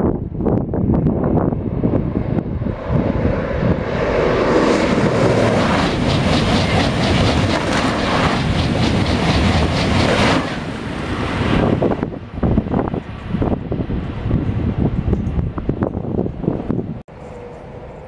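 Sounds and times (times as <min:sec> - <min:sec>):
wind on microphone: 0:00.0 - 0:17.1
high-speed train passing: 0:00.0 - 0:18.0.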